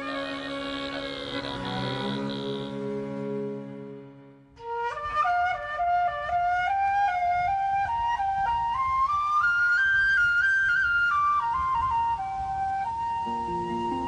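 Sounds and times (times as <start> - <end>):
slow wind instrument melody: 0.0 - 14.0.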